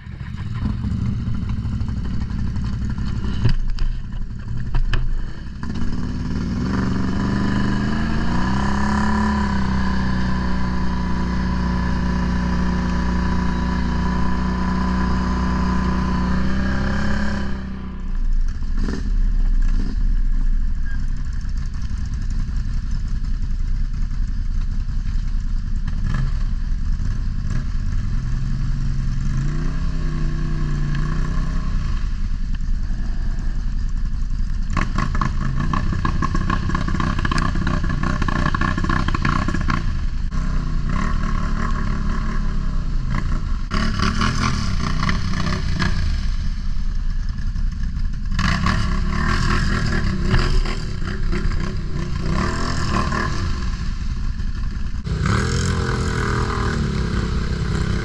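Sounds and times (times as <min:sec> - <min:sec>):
atv engine revving: 0:00.0 - 0:20.2, 0:25.0 - 0:58.0.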